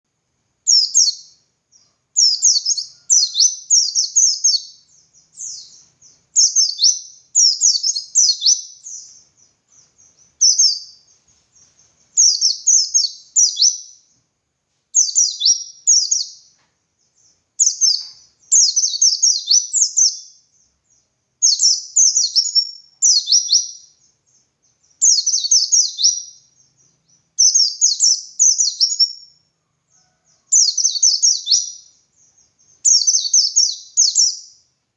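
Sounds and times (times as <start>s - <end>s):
bird singing: 0.6s - 14.3s, 14.9s - 34.8s.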